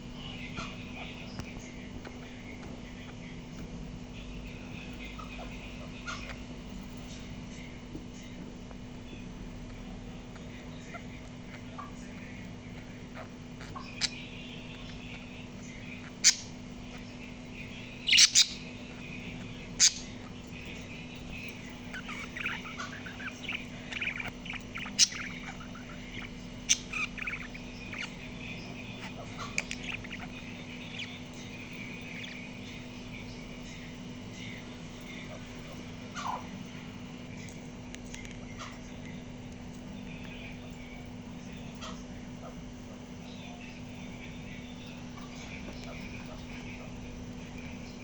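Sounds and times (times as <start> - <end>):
steady low hum: 0.0 - 48.0
parrot chirping and chattering: 4.3 - 7.5, 8.2 - 48.0.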